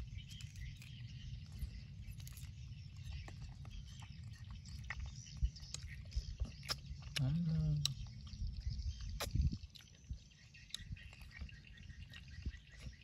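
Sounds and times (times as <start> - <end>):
wet mouth clicks and chewing: 0.0 - 13.0.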